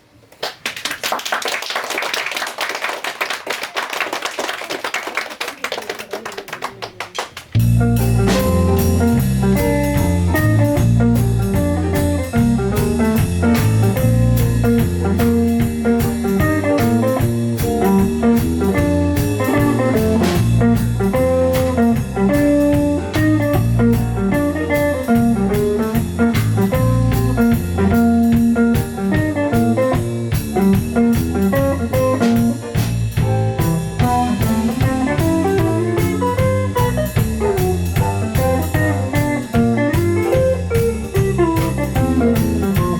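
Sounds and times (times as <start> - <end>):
bluesy jazz band music: 7.4 - 42.9
plucked guitar line: 7.6 - 42.9.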